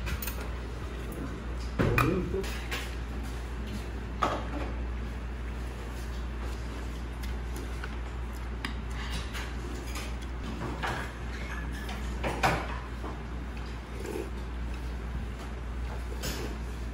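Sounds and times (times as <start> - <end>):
low room hum: 0.0 - 16.9.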